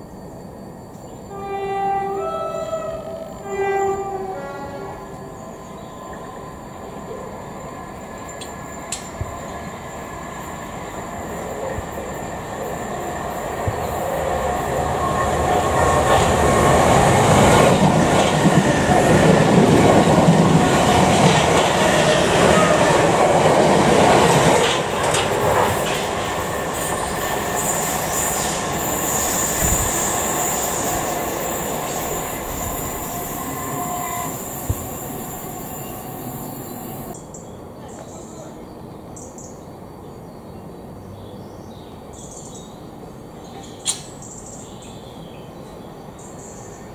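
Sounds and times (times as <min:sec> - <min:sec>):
electric train passing: 0:00.0 - 0:37.8.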